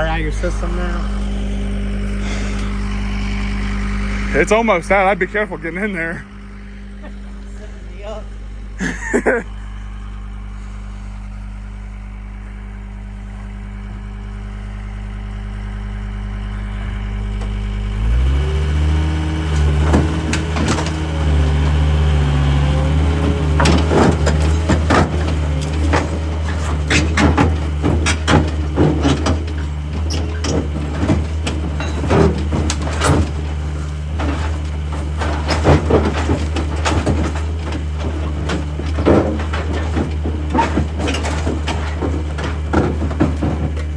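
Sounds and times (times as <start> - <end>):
machine engine revving: 0.0 - 11.7, 16.5 - 43.9
crunching and knocking impacts: 0.0 - 12.6, 15.9 - 43.9.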